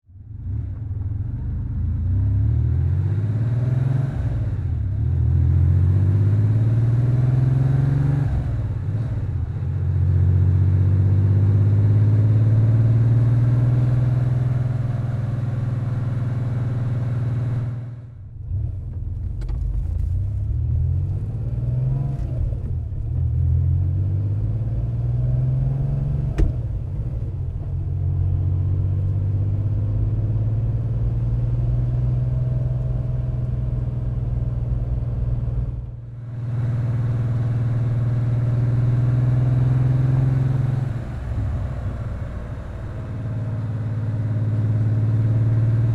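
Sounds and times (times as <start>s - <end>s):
car engine accelerating through gears: 0.3s - 45.9s.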